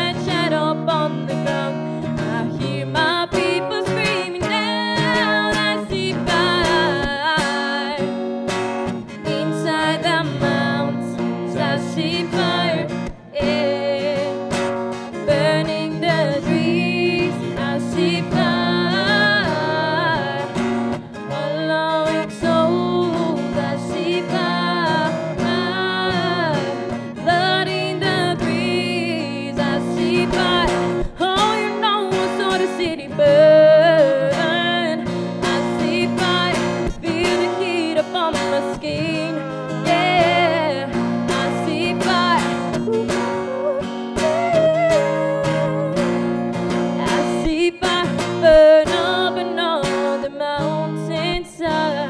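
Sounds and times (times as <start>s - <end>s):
person singing: 0.0s - 8.2s, 9.1s - 52.0s
acoustic guitar strummed: 0.0s - 52.0s.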